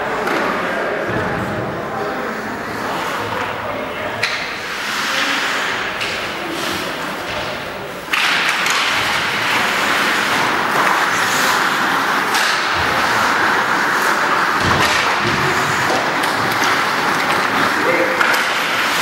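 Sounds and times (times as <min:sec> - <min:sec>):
puck and sticks hitting boards: 0:00.0 - 0:02.1, 0:02.7 - 0:19.0
noisy rink background: 0:00.0 - 0:19.0.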